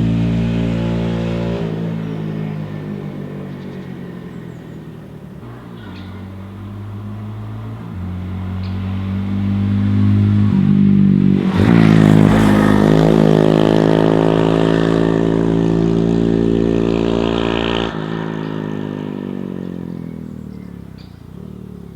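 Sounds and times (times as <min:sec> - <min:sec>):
motorcycle riding past: 0:00.0 - 0:21.9.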